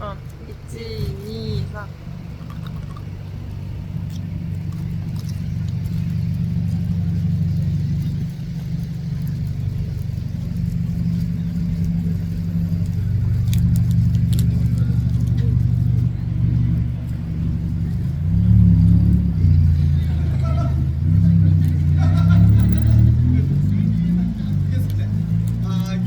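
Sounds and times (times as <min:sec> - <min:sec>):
low vehicle rumble: 0:00.0 - 0:26.0.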